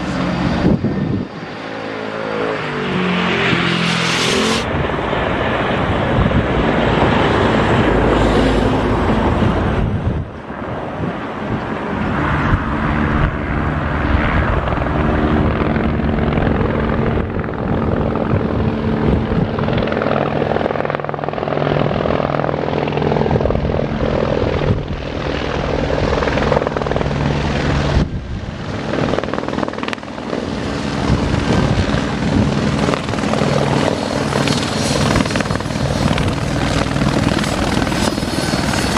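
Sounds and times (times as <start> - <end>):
helicopter rotor beat: 0.0 - 38.9
turbine whine: 0.0 - 38.9.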